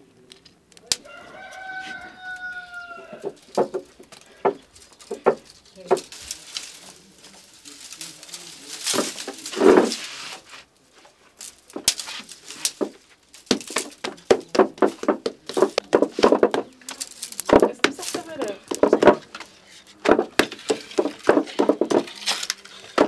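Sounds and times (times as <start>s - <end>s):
rustling burst: 3.2s - 23.0s.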